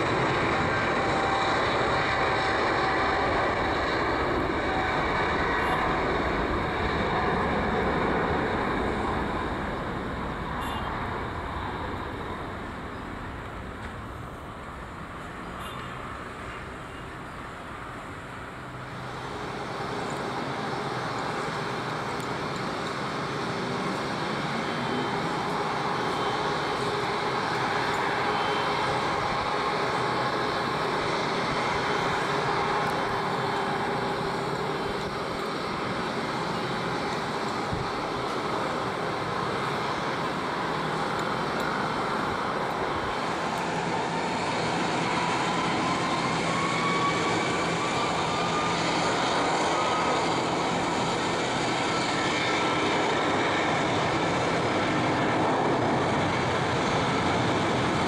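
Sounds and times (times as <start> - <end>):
jet engine whine and hum: 0.0 - 58.0
jet engines at takeoff: 0.0 - 58.0.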